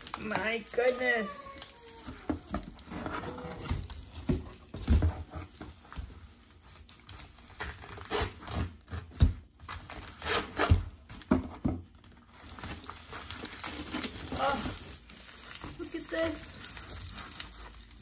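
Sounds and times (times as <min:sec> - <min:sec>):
plastic packaging rustling: 0:00.0 - 0:18.0.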